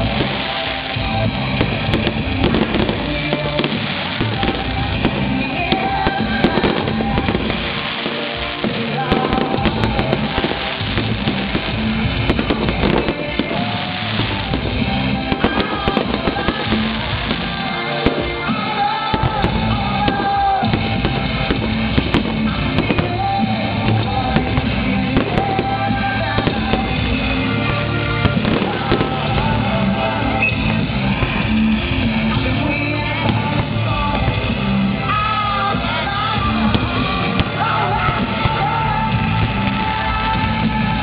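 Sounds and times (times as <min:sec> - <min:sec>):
firework bangs and crackles: 0:00.0 - 0:41.0
rock music with singing: 0:00.0 - 0:41.0.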